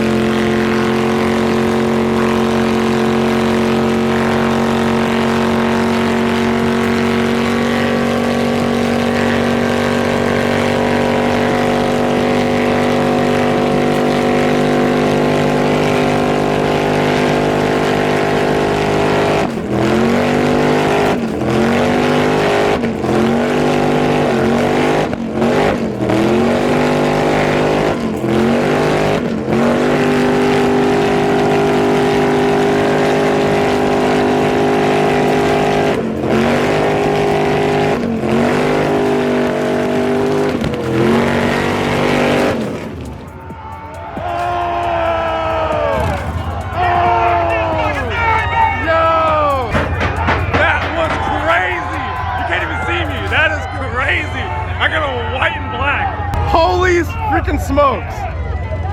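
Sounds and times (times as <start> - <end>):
car engine revving high: 0.0 - 58.9.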